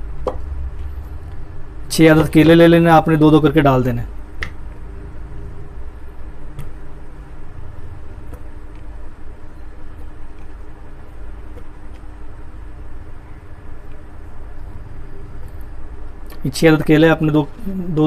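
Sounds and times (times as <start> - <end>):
low mechanical rumble with hum: 0.0 - 18.0.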